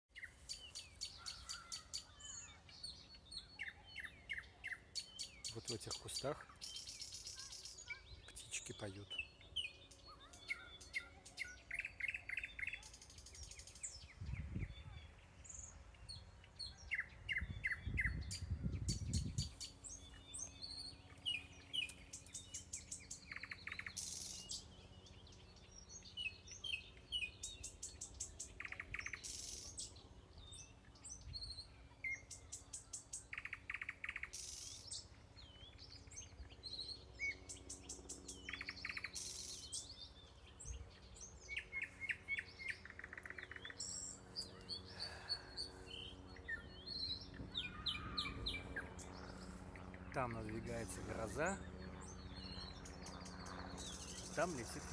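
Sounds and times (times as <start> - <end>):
small songbirds singing: 0.1 - 54.9.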